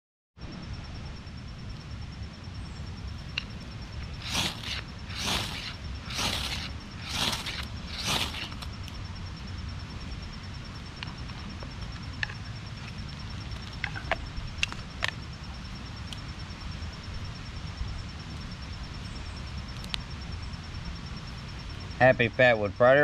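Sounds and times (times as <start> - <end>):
low steady rumble: 0.4 - 23.0.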